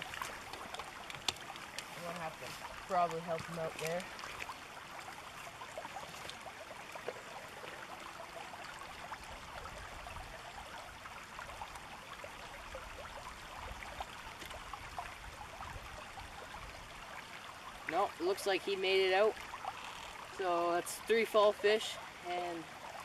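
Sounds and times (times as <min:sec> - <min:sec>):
river water running over gravel: 0:00.0 - 0:23.0.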